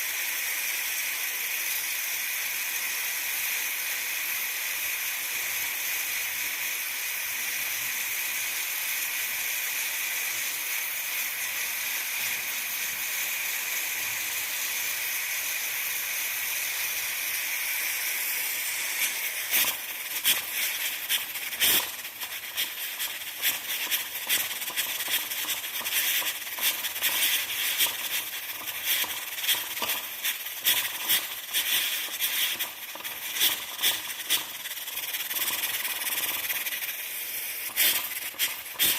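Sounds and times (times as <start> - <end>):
pressure cooker venting steam: 0.0 - 38.9.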